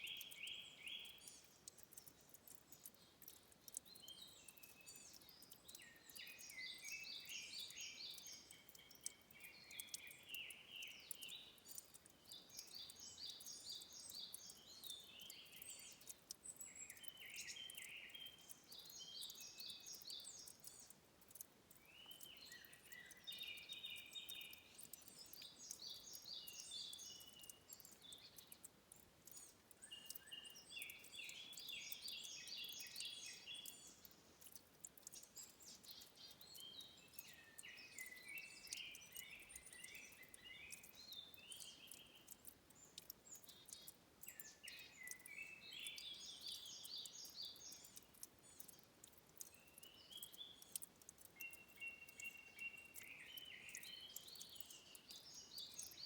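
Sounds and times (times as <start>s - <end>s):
forest ambience hiss: 3.9s - 11.6s, 12.2s - 20.9s, 21.8s - 28.5s, 29.3s - 34.4s, 35.2s - 48.8s, 51.4s - 56.0s.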